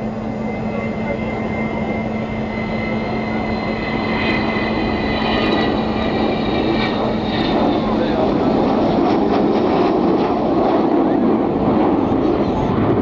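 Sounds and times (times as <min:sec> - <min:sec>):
high jet whine: 0:00.0 - 0:13.0
jet engines roaring: 0:00.0 - 0:13.0.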